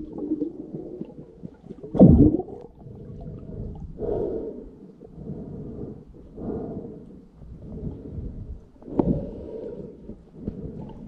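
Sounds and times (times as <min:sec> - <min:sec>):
muffled underwater water rumbling: 0:00.0 - 0:11.0.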